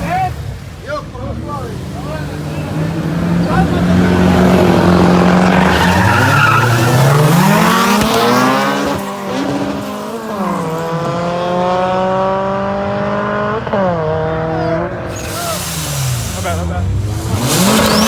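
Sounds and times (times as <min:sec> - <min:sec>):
tires squealing: 0:00.0 - 0:11.5, 0:14.2 - 0:18.0
car engine revving: 0:00.0 - 0:18.0.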